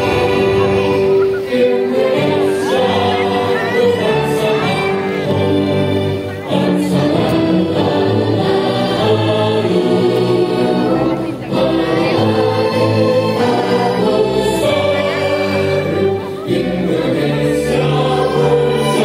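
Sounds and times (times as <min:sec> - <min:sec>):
crowd singing in unison: 0:00.0 - 0:19.0.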